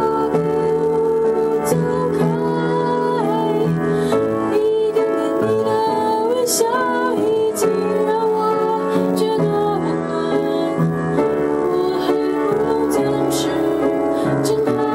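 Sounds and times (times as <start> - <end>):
piano playing: 0.0 - 14.9
woman singing: 0.0 - 14.9.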